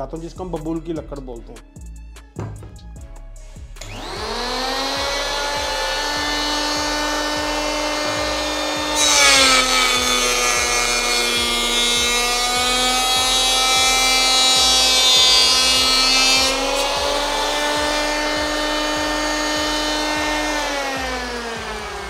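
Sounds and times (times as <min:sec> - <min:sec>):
electric planer whining: 0:03.8 - 0:22.0
wood shaving noise: 0:03.8 - 0:22.0.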